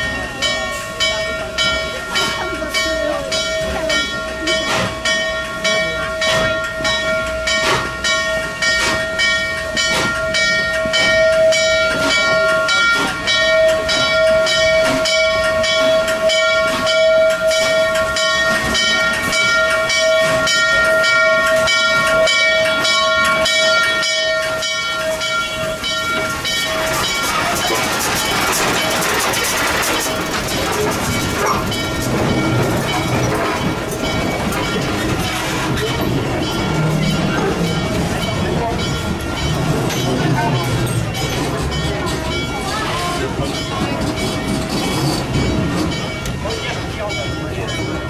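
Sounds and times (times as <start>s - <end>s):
locomotive bell ringing: 0.0s - 48.0s
locomotive running gear: 0.0s - 48.0s.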